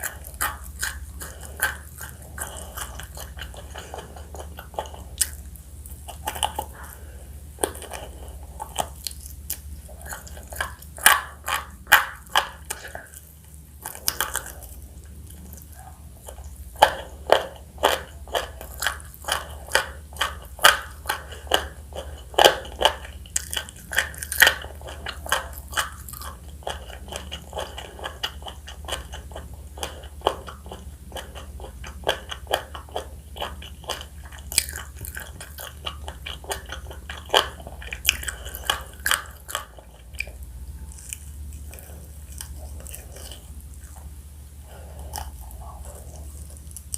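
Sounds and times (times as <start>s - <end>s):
chewing: 0.0s - 46.9s.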